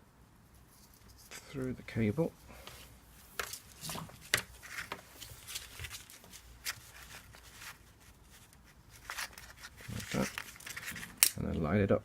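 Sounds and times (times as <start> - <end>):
rustling of plastic and cable: 0.6 - 11.6.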